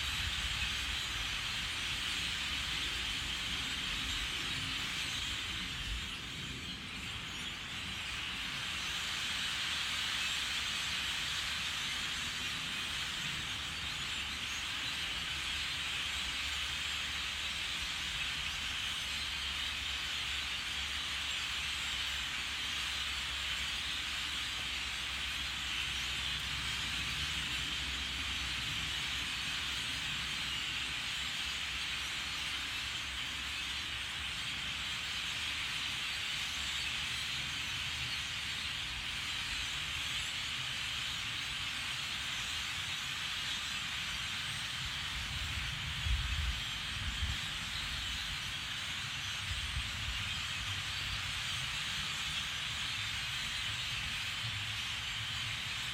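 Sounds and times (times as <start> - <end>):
flock of birds chattering: 0.0 - 55.9.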